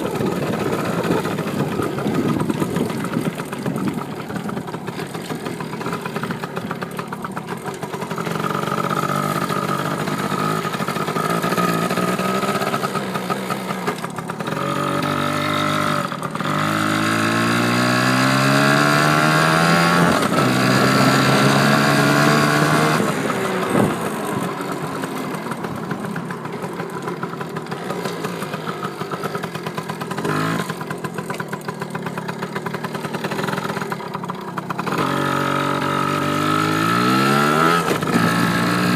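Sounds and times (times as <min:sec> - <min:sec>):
dirt bike engine accelerating: 0:00.0 - 0:38.9.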